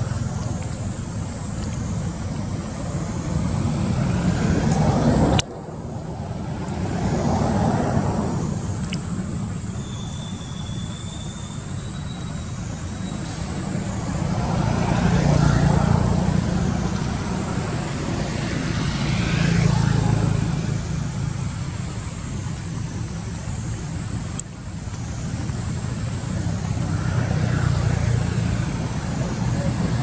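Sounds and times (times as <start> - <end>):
traffic passing on road: 0.0 - 30.0.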